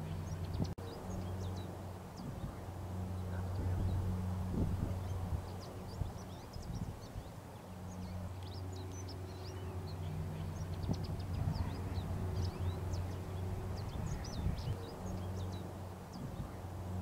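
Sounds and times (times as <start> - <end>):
songbirds chirping: 0.0 - 17.0
steady low hum: 0.0 - 17.0.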